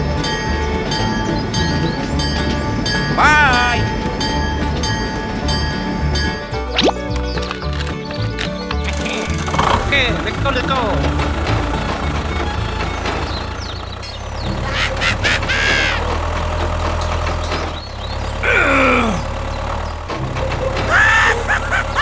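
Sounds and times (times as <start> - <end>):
low engine-like rumble: 0.0 - 22.0.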